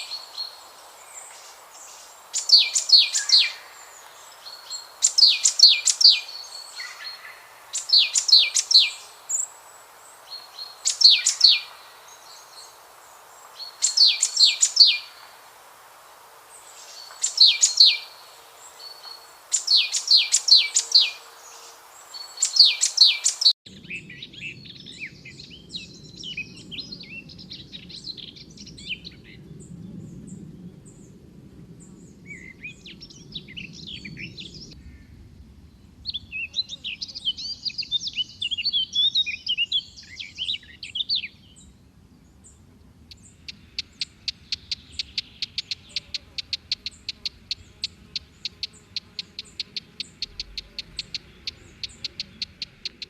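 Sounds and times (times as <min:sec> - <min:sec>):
birds twittering and chattering: 0:00.0 - 0:15.4, 0:16.5 - 0:31.1, 0:31.8 - 0:53.0
background hiss: 0:00.0 - 0:53.0
songbird singing: 0:00.0 - 0:53.0.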